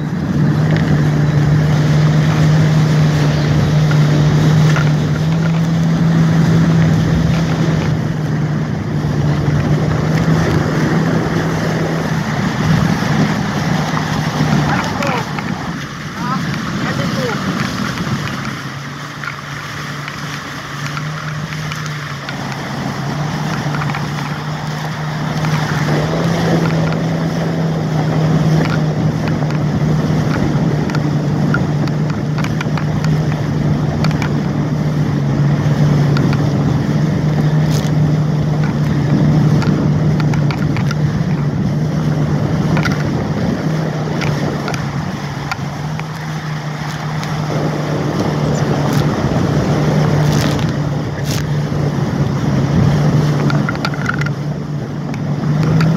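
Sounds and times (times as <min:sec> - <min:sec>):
jet ski engine running: 0:00.0 - 0:55.9
water spray rushing: 0:00.0 - 0:55.9
wind on microphone: 0:00.0 - 0:55.9.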